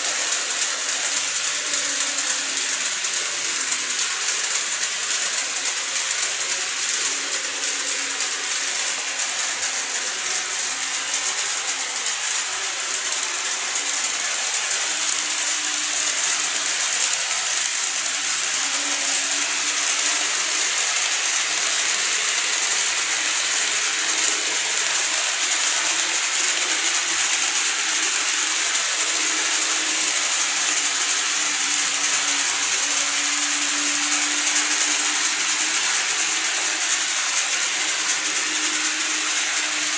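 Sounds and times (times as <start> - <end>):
model train wheels rattling: 0.0 - 39.9.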